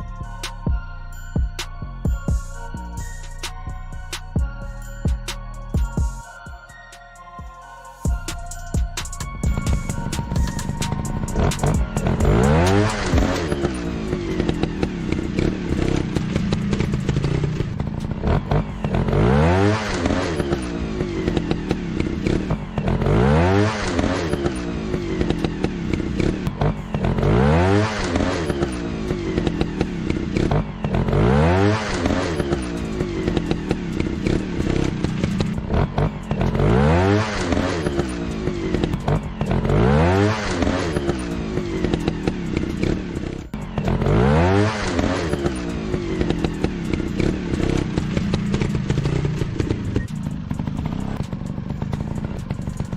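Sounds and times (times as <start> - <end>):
dirt bike engine revving: 9.5 - 52.9.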